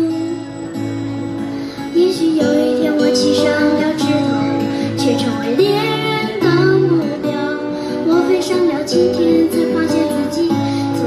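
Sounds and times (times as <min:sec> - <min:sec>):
child singing into microphone: 0:00.0 - 0:00.5, 0:01.9 - 0:11.0
strummed acoustic guitar: 0:00.0 - 0:11.0.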